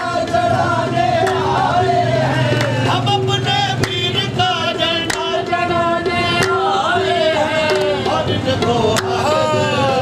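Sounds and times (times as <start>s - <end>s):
men singing devotional chant: 0.0s - 10.0s.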